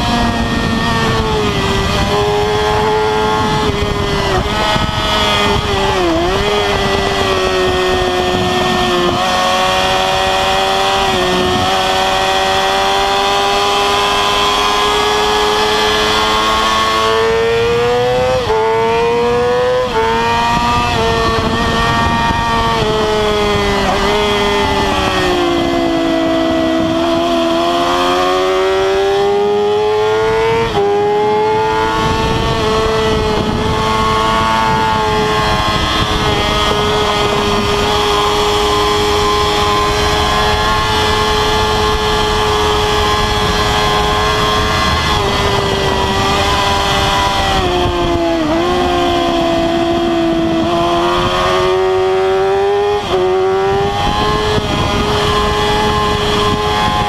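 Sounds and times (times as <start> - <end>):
motorcycle engine at high revs: 0.0 - 57.0
wind rush: 0.0 - 57.0.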